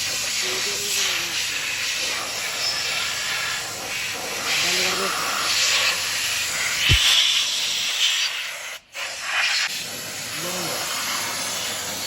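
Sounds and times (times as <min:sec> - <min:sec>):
pressurised spray hissing: 0:00.0 - 0:12.0.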